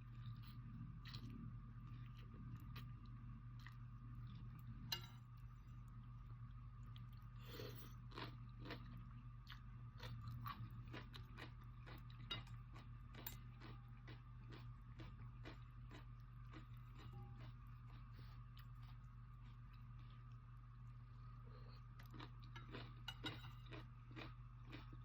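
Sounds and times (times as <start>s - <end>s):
person chewing noodles: 0.0s - 4.8s, 5.8s - 20.4s, 21.5s - 25.0s
low steady hum: 0.0s - 25.0s.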